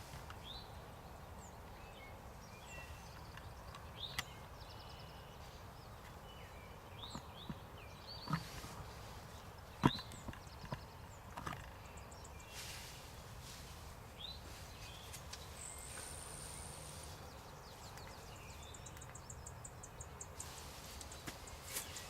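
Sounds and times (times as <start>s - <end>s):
faint woodland ambience: 0.0s - 22.0s.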